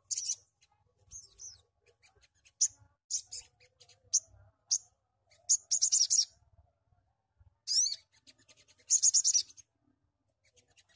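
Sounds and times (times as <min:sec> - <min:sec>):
bird chirping: 0:00.0 - 0:10.9.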